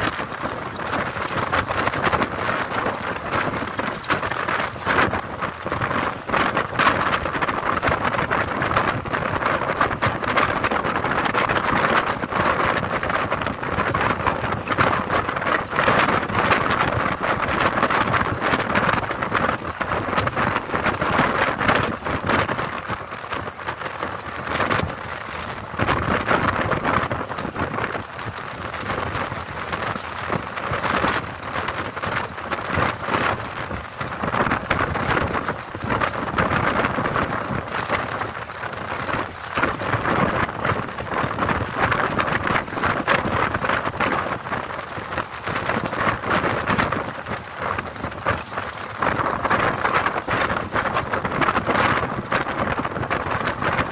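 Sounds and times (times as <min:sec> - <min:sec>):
wind and road noise: 0:00.0 - 0:53.9.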